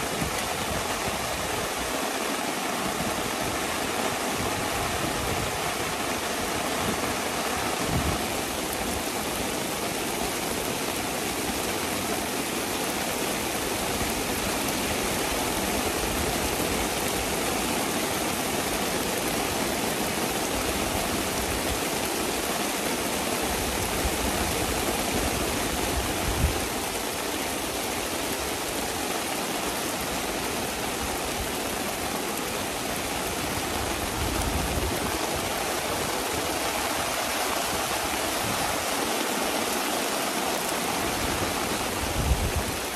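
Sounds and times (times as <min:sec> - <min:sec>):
heavy rain hissing: 0:00.0 - 0:42.9.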